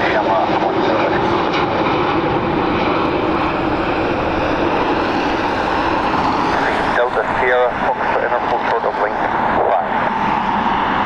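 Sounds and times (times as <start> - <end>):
aircraft engines running: 0.0 - 11.0.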